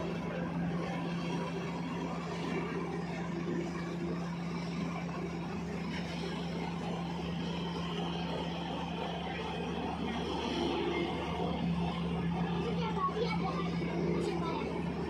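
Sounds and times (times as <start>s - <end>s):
ship diesel engines humming: 0.0s - 15.0s.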